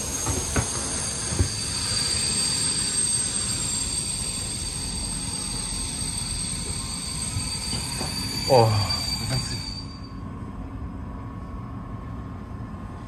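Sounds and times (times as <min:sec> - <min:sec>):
train hum and high-pitched whine: 0:00.0 - 0:13.0.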